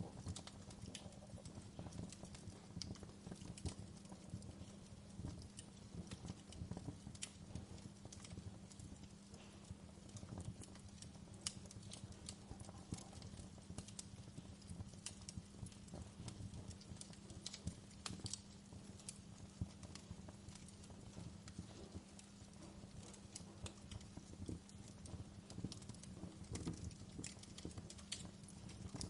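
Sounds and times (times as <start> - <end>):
burning wood popping and snapping: 0.0 - 29.0
low rumble of flames: 0.0 - 29.0.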